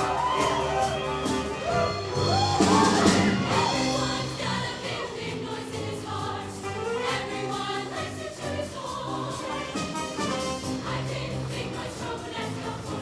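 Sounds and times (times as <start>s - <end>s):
band accompaniment with beat: 0.0s - 4.6s, 5.4s - 13.0s
choir singing: 0.0s - 13.0s.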